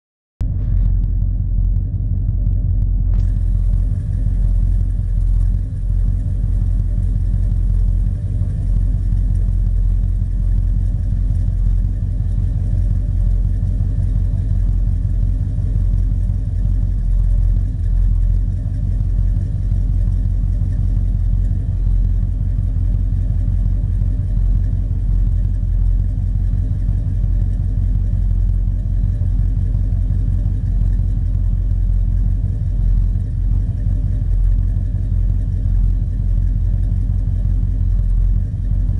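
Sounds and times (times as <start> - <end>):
car engine idling: 0.4 - 38.9.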